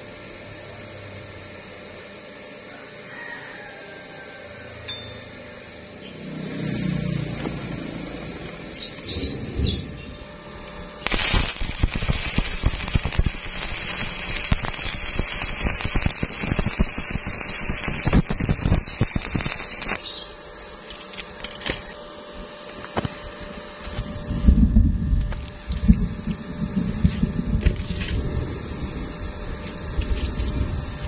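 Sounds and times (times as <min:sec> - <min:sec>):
arc welding crackling: 0:06.0 - 0:31.0.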